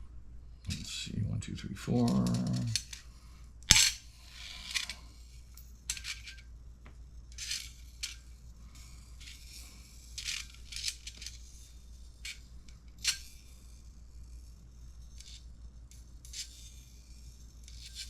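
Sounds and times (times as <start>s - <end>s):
metal balls clicking in tray: 2.0s - 18.0s.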